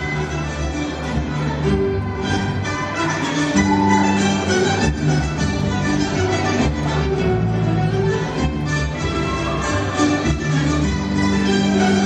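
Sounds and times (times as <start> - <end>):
folk-dance music with plucked strings: 0.0 - 12.0.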